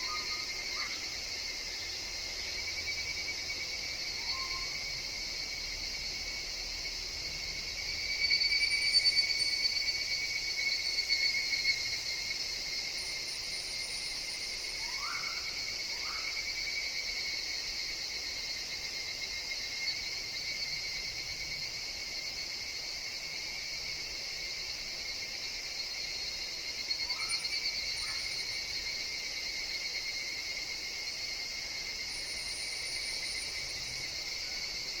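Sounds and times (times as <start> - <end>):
cicadas droning: 0.0 - 35.0
nearer cicada call: 0.0 - 35.0.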